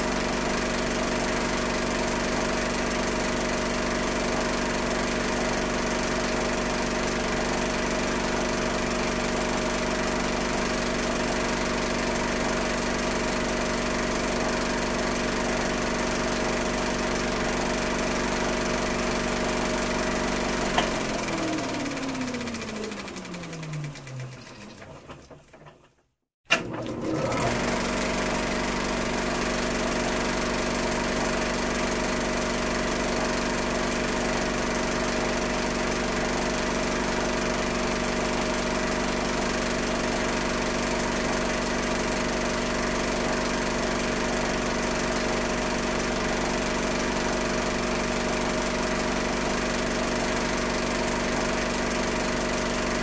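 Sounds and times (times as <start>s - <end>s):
film projector running: 0.0s - 25.2s, 26.5s - 53.0s.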